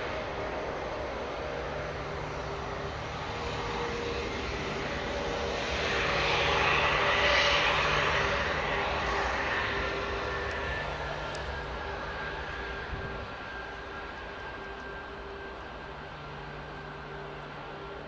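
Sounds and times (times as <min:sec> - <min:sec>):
jet airliner roar and whine: 0:00.0 - 0:18.0.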